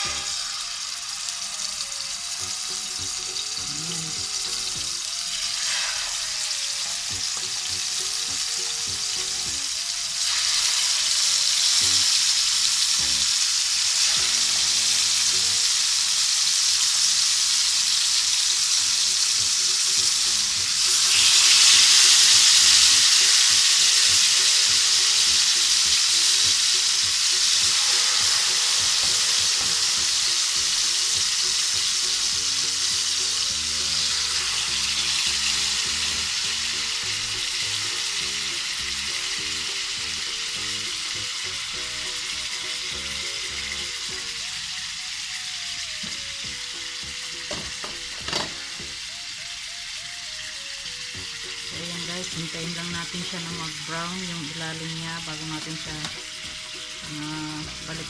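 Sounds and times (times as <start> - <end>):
chicken sizzling in a pan: 0.0 - 58.0.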